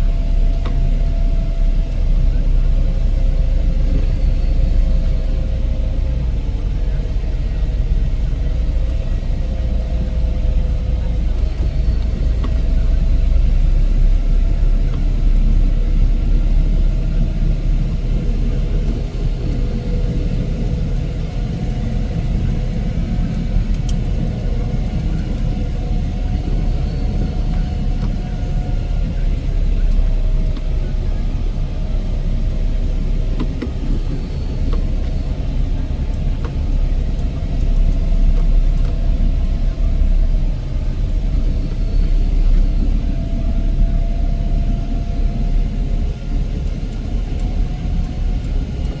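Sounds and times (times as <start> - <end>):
heavy machinery engine rumble: 0.0 - 49.0.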